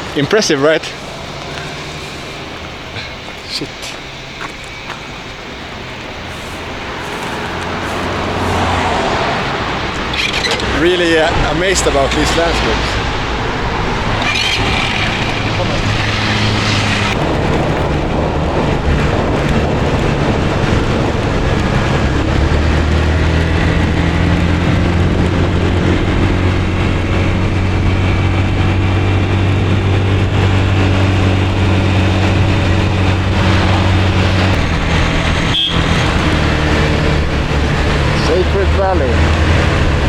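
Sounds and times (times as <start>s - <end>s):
motor scooter engine running: 0.0s - 40.0s
wind noise: 0.0s - 40.0s.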